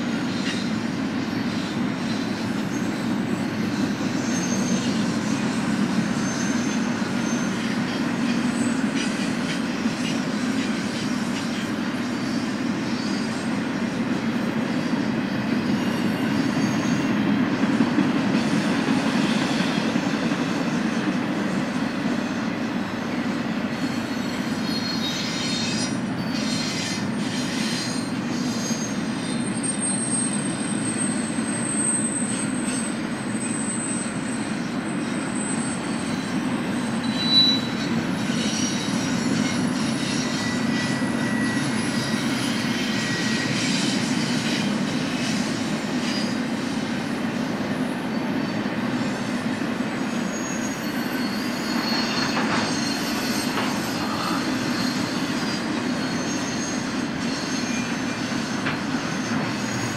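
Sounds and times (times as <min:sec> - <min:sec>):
freight train wheels rumbling: 0:00.0 - 0:59.9
high-pitched wheel squeal: 0:00.1 - 0:17.2, 0:17.8 - 0:59.9.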